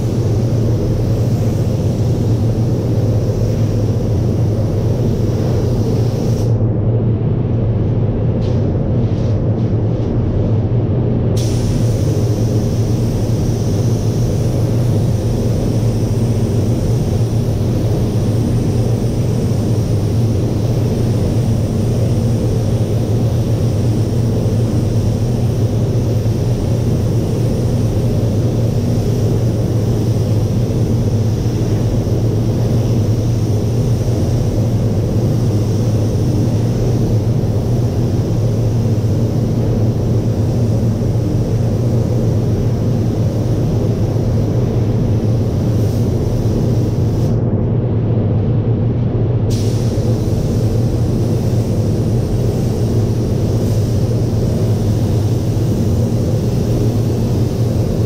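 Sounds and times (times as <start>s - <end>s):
paint spray gun hissing: 0.0s - 6.5s, 11.4s - 47.4s, 49.5s - 58.0s
ventilation hum and air rush: 0.0s - 58.0s.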